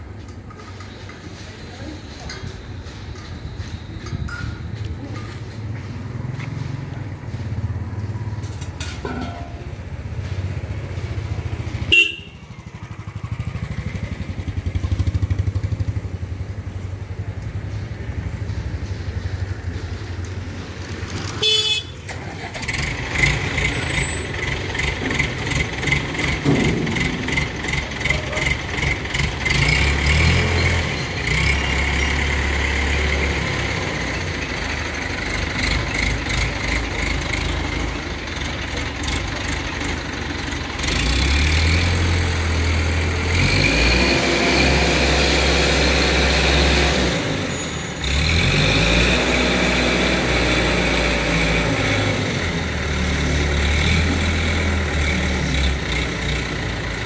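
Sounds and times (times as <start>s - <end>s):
crane diesel engine under load: 0.0s - 57.0s.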